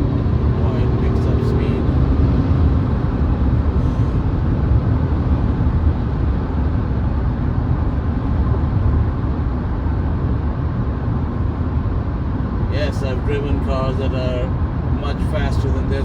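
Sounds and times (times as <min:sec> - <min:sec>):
car engine running: 0:00.0 - 0:16.0
road noise rumble: 0:00.0 - 0:16.0.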